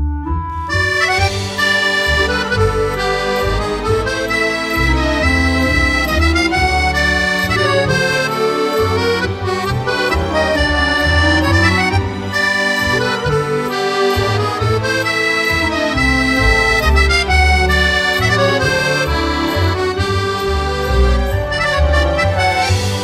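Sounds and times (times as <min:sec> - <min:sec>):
accordion music: 0:00.0 - 0:23.0.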